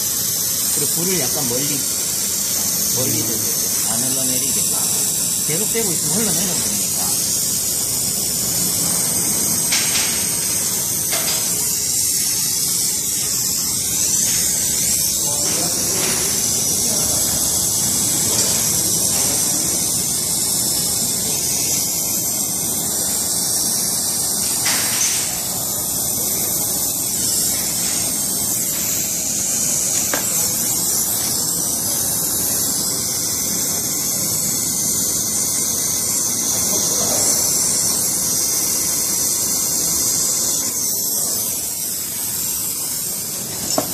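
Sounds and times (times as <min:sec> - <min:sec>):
torch flame hissing: 0:00.0 - 0:43.9.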